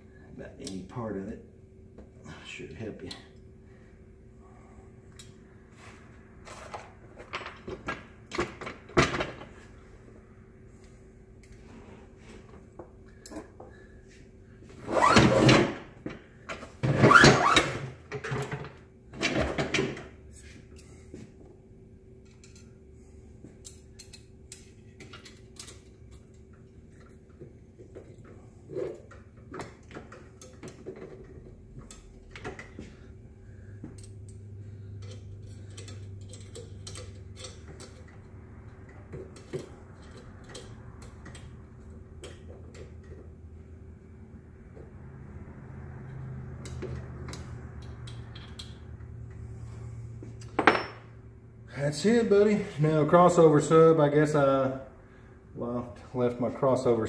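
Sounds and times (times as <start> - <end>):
steady low hum: 0.0 - 16.8, 18.0 - 57.0.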